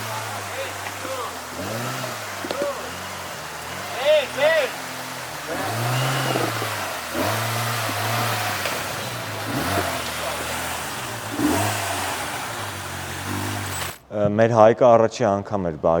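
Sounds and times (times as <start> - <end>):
off-road vehicle engine revving: 0.0 - 14.1.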